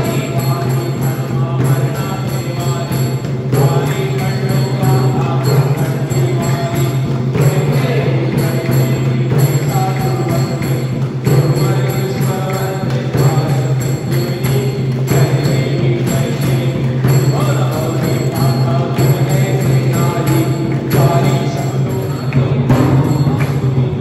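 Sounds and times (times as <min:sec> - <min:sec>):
bells ringing: 0:00.0 - 0:24.0
devotional music with singing: 0:00.0 - 0:24.0.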